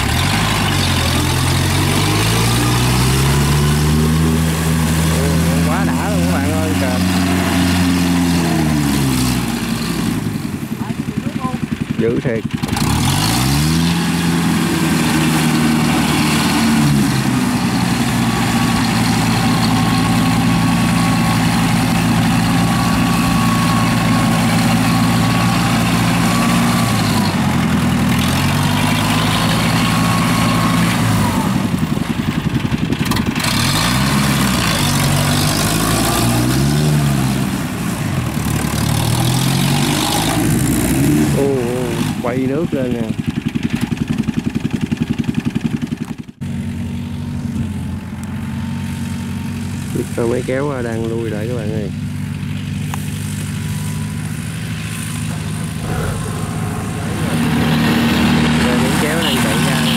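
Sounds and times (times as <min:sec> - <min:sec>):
tracked machine engine labouring: 0:00.0 - 0:59.9.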